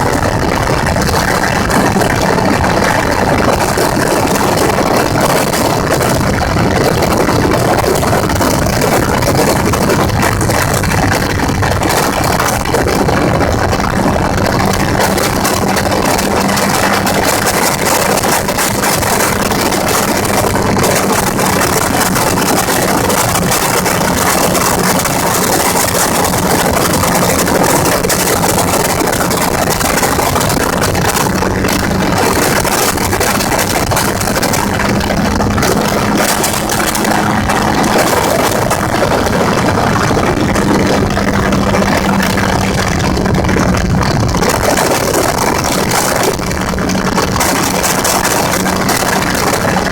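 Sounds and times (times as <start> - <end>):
gyrocopter engine and propeller: 0.0 - 49.9.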